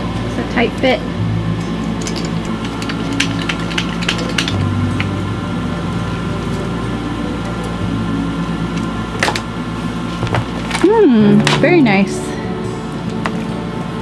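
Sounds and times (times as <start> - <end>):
steady low drone: 0.0 - 14.0.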